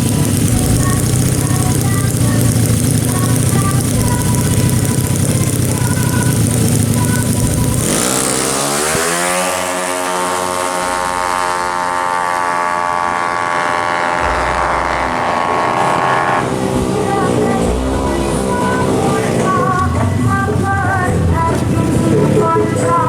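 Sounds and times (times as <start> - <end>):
scooter engine revving: 0.0 - 23.0.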